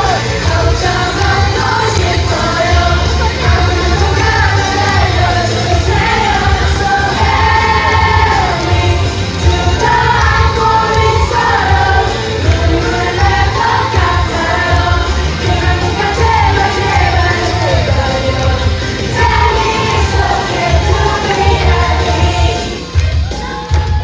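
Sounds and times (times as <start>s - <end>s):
children singing: 0.0s - 22.9s
pop backing track: 0.0s - 24.0s.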